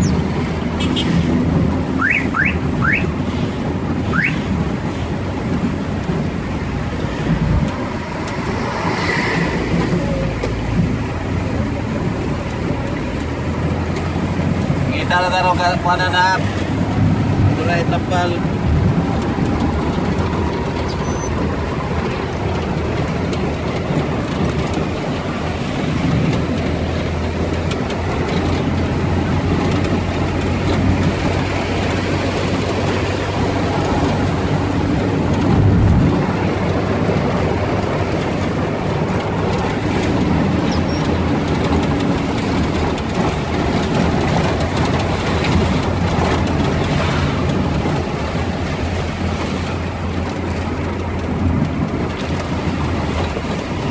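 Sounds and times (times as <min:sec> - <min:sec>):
rain on windshield: 0:00.0 - 0:53.9
tyres on wet road: 0:00.0 - 0:53.9
vehicle engine running: 0:00.0 - 0:53.9.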